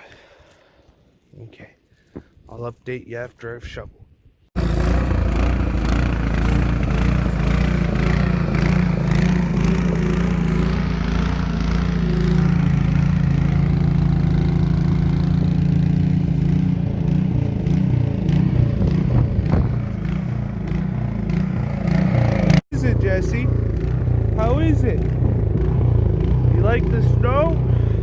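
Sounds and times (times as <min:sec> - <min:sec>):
snowblower engine running: 0:04.6 - 0:28.0.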